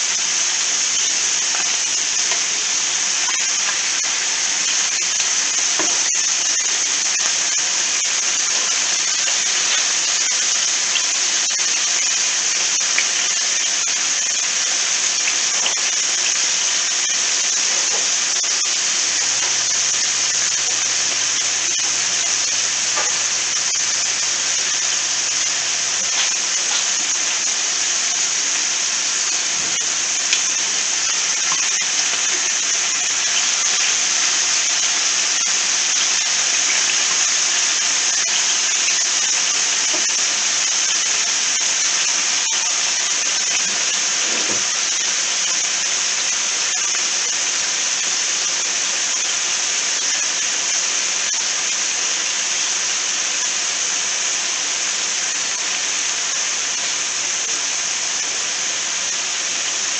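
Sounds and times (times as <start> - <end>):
chicken frying in oil: 0.0 - 59.9.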